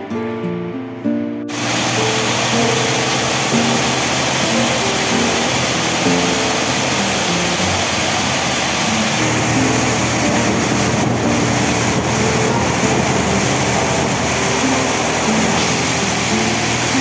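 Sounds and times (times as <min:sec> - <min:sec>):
water spraying hiss: 0:01.5 - 0:17.0.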